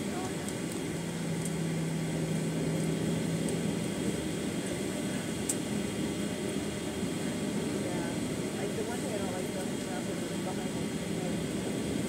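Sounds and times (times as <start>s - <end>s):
aircraft cabin noise: 0.0s - 12.0s.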